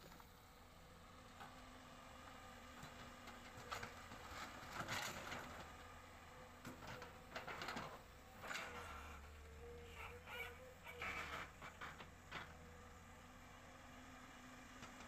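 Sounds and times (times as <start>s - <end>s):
faint diesel engine hum: 0.0s - 15.0s.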